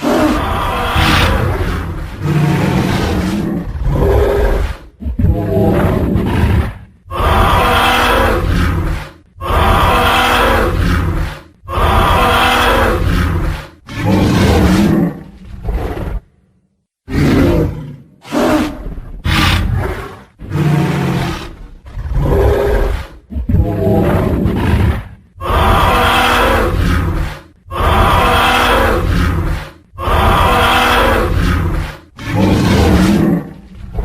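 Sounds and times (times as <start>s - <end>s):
dinosaur roars: 0.0s - 16.3s, 17.1s - 34.0s
dinosaur growls: 0.0s - 16.4s, 17.1s - 34.0s.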